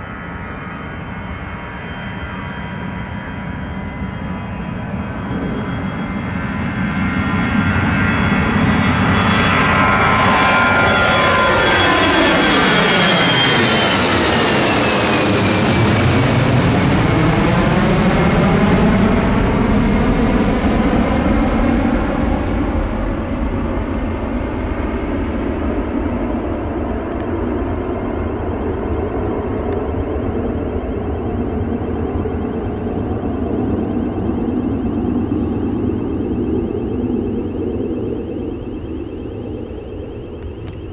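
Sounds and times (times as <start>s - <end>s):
jet engine whine passing: 0.0s - 40.9s.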